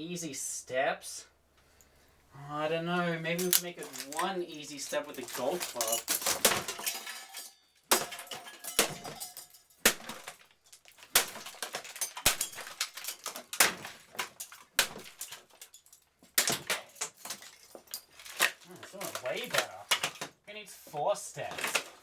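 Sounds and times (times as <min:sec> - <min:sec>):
loose parts rattling: 0:03.3 - 0:20.5, 0:21.4 - 0:22.0.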